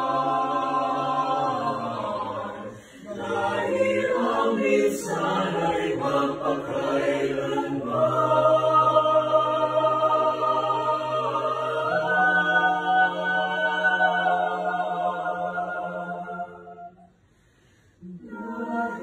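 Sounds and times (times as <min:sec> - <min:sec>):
choir singing unaccompanied: 0:00.0 - 0:17.1, 0:18.0 - 0:19.0.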